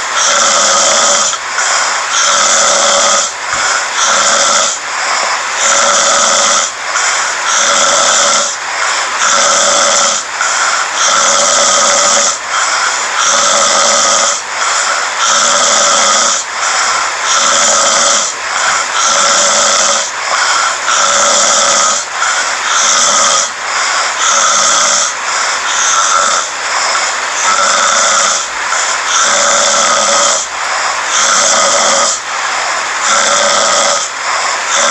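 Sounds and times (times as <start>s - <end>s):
person snoring loudly: 0.0s - 34.9s.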